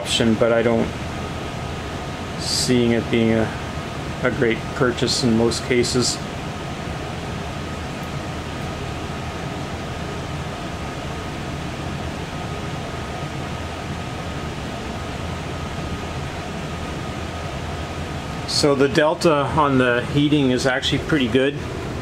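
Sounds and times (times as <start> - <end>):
heat pump fan humming: 0.0 - 22.0.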